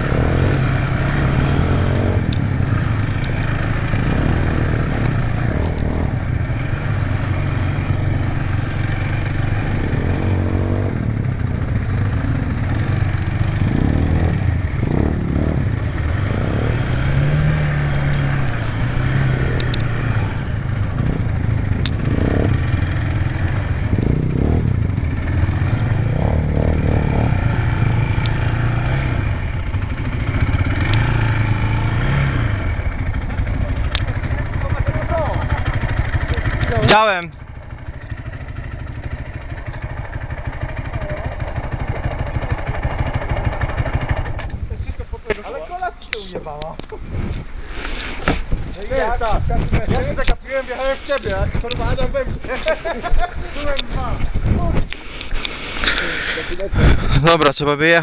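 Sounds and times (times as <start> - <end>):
quad bike engine revving: 0.0 - 44.7, 45.4 - 58.0
sharp clicks and clatter: 0.2 - 16.8, 17.6 - 31.6, 32.9 - 44.6, 51.0 - 56.1.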